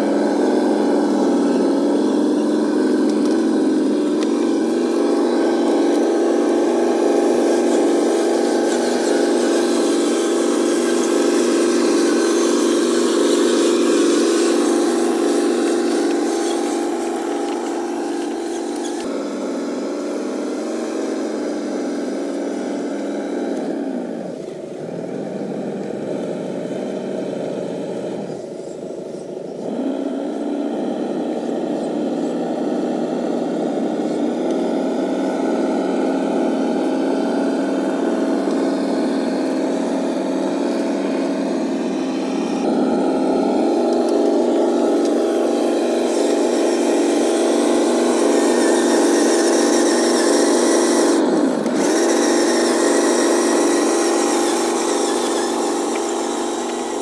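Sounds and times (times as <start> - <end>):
electric motor and gearbox whining: 0.0 - 57.0.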